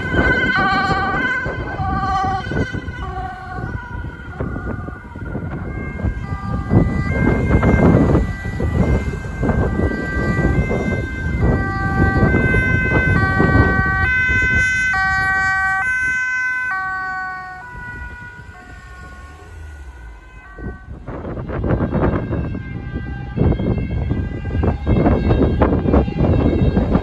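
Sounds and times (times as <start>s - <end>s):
police car two-tone siren: 0.0s - 27.0s
rumbling wind or traffic: 0.0s - 27.0s.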